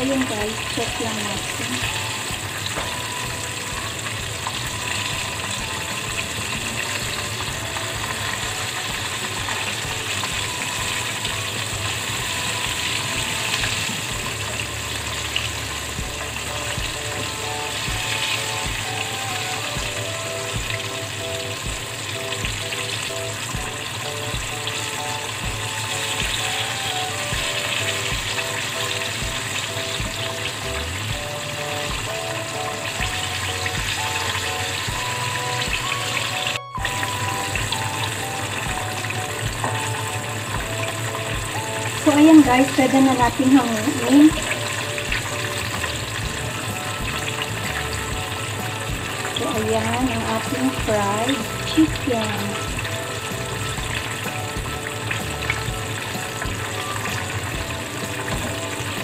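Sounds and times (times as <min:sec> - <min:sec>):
background music: 0:00.0 - 0:59.0
chicken deep-frying in oil: 0:00.0 - 0:59.0.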